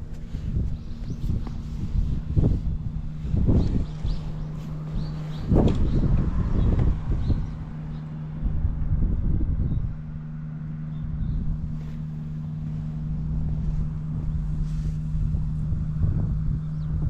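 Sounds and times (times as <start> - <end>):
scooter engine idling: 0.0 - 17.0
wind on microphone: 0.0 - 17.0.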